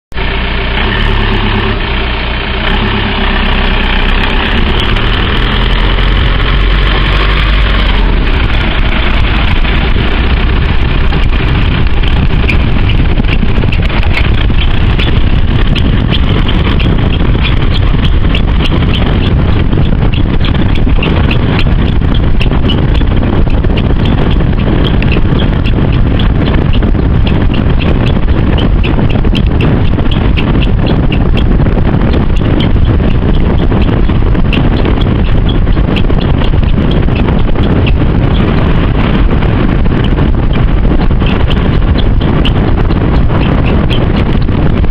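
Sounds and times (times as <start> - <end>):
car engine hum: 0.1 - 44.9
road noise: 0.1 - 44.9.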